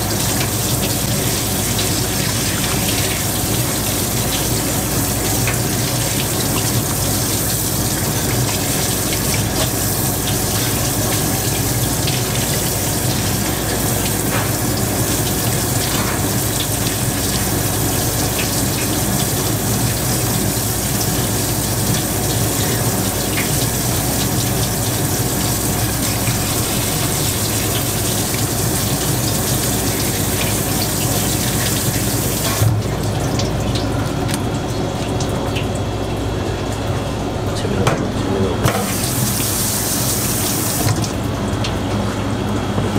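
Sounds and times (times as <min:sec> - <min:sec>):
tap water splashing in sink: 0:00.0 - 0:35.9, 0:37.8 - 0:42.9.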